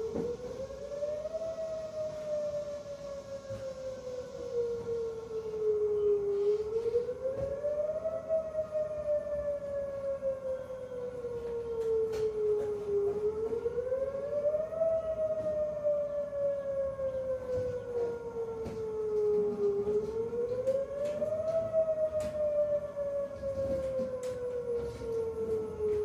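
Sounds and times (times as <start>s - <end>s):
warning siren wailing: 0.0s - 26.0s.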